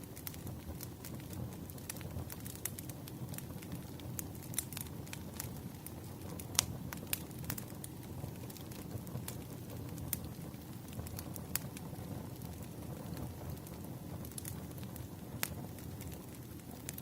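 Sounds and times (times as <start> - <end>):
fire rumbling: 0.0 - 17.0
firewood crackling and popping: 0.0 - 17.0.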